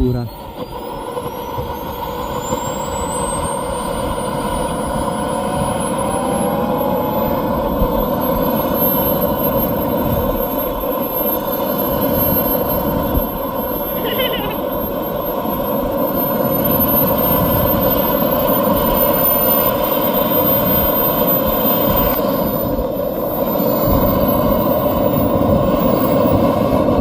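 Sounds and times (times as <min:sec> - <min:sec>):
high turbine whine: 0:00.0 - 0:27.0
jet exhaust rush: 0:00.0 - 0:27.0.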